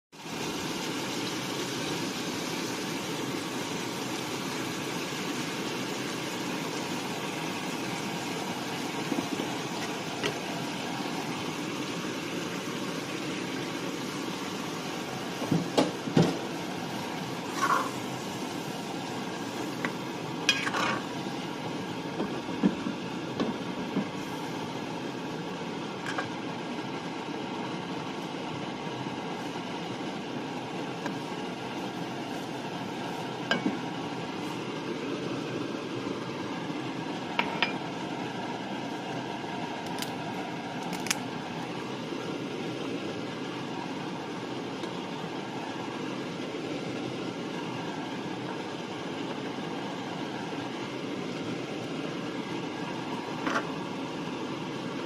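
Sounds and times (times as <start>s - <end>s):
pot bubbling and hissing: 0.1s - 55.0s.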